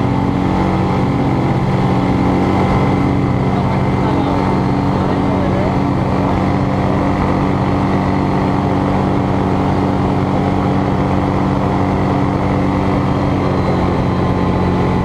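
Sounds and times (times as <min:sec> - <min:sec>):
light aircraft engine and propeller drone: 0:00.0 - 0:15.0.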